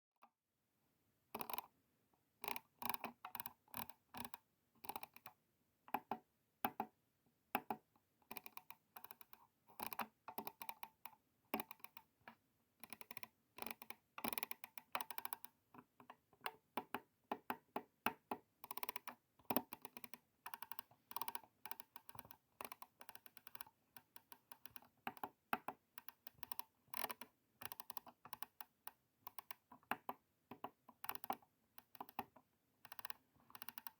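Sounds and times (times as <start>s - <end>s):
computer mouse buttons clicking: 1.4s - 1.7s, 2.4s - 6.9s, 7.6s - 12.1s, 12.8s - 33.9s.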